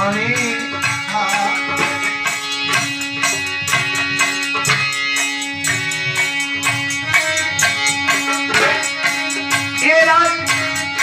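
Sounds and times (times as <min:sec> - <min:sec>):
drum beat: 0:00.0 - 0:11.0
sustained melody instrument notes: 0:00.0 - 0:11.0.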